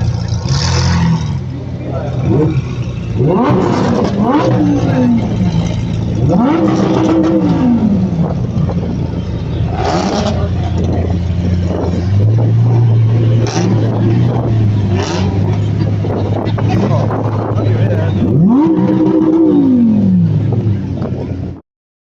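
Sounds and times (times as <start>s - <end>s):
car engine idling and revving: 0.0s - 21.6s.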